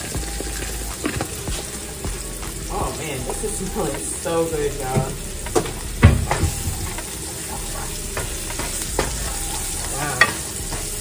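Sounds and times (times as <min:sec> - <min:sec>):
knocks of stirring a pan: 0:00.0 - 0:11.0
onion and garlic sizzling in oil: 0:00.0 - 0:11.0.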